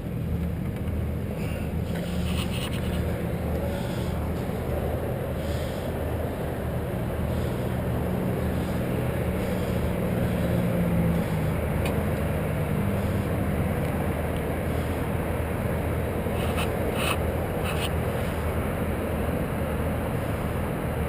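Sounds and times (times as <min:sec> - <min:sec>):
low droning hum: 0:00.0 - 0:21.0.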